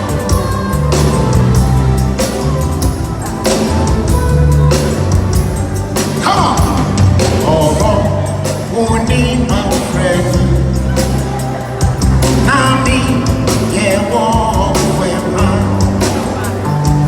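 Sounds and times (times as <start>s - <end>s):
bass line: 0.0s - 17.0s
drum beat: 0.0s - 17.0s
person singing: 0.0s - 17.0s.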